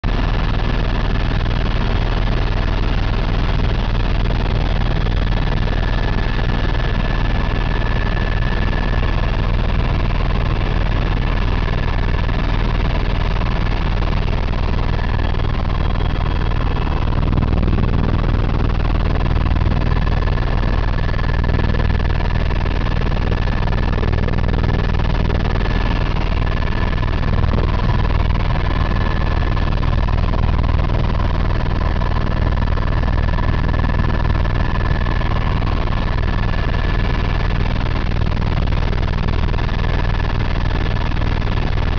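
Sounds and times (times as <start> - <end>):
helicopter rotor and engine drone: 0.0 - 41.9
high whine: 4.7 - 38.4.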